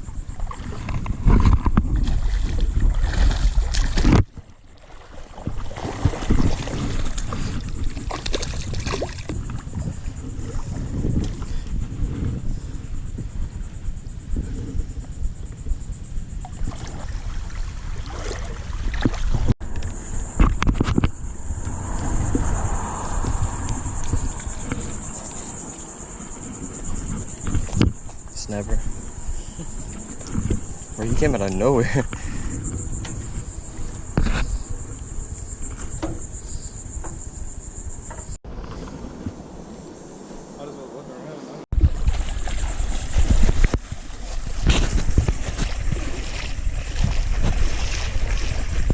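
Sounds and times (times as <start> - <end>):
wind buffeting microphone: 0.0 - 4.5, 5.3 - 39.9, 41.7 - 48.9
insect chorus pulsing: 0.0 - 48.9.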